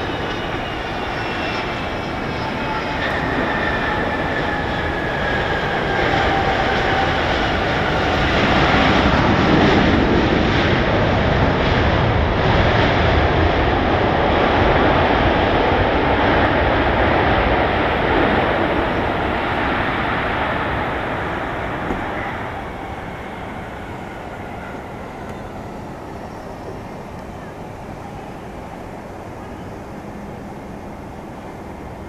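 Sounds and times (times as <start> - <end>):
jet engine roar: 0.0 - 32.0.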